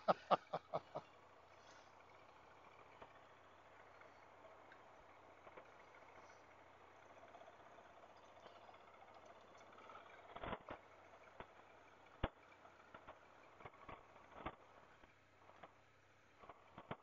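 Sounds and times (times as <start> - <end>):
motorcycle rolling over gravel: 0.5 - 17.0.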